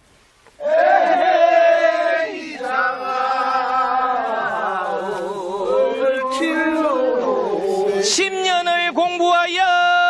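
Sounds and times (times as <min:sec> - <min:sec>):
men singing in chanting style: 0:00.6 - 0:10.0.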